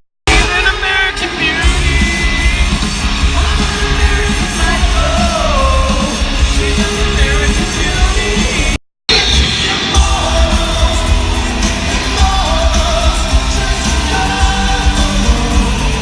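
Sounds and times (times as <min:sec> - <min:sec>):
live rock band playing: 0:00.3 - 0:16.0
person singing: 0:00.3 - 0:16.0.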